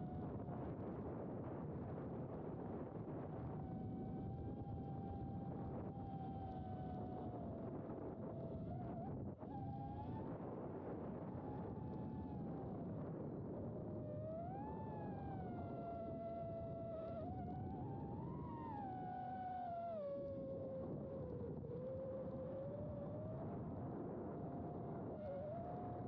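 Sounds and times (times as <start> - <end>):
wind noise: 0.0 - 26.0.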